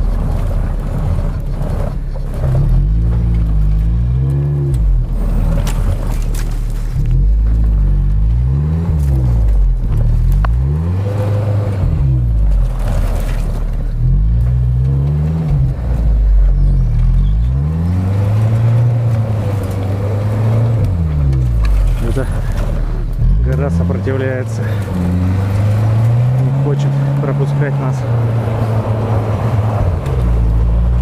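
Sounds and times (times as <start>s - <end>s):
suv engine revving: 0.0s - 31.0s.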